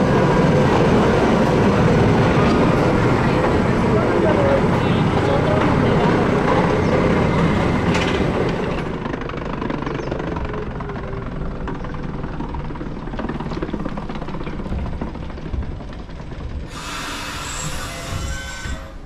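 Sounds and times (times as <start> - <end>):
electric train rumbling and rattling: 0.0 - 19.0.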